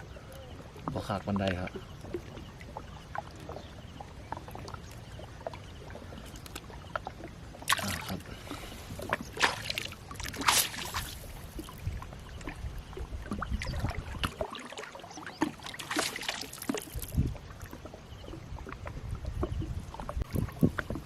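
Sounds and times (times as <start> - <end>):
water splashing around boat: 0.0 - 21.0.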